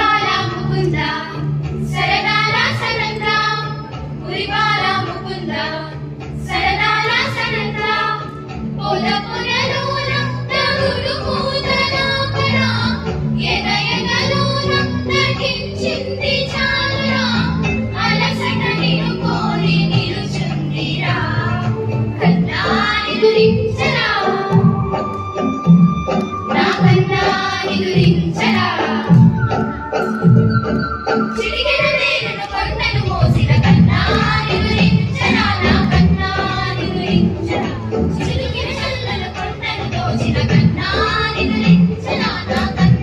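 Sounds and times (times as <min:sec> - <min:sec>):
girls singing together: 0:00.0 - 0:25.0, 0:26.5 - 0:29.4, 0:31.3 - 0:43.0.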